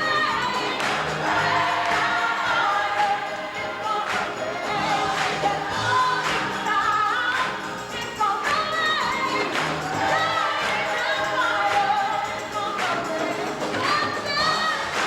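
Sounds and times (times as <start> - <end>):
gospel choir singing: 0.0 - 15.0
instrumental accompaniment: 0.0 - 15.0
percussion beat: 0.0 - 15.0.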